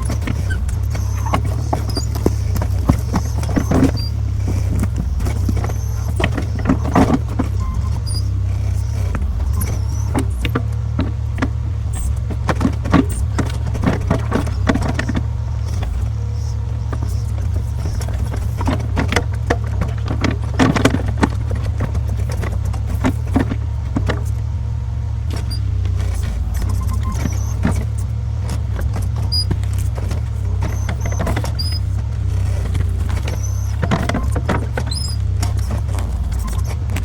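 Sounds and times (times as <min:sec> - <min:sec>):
grapple knocking and clanking: 0:00.0 - 0:37.0
skid steer engine running: 0:00.0 - 0:37.0.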